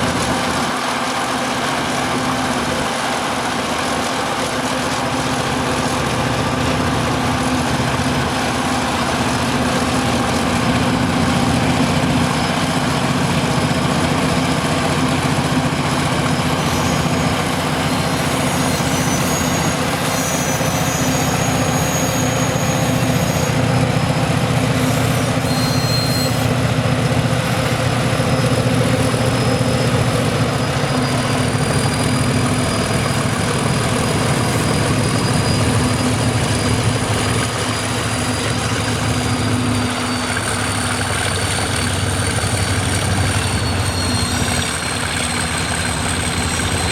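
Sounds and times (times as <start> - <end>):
locomotive engines droning: 0.0 - 46.9.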